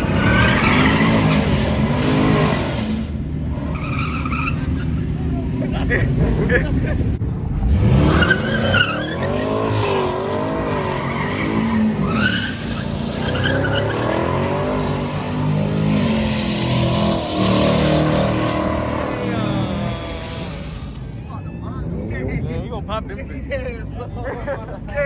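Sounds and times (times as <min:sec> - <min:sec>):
tyres squealing on pavement: 0:00.0 - 0:06.5, 0:07.6 - 0:22.3
car engine revving hard: 0:00.0 - 0:06.6, 0:07.4 - 0:21.2.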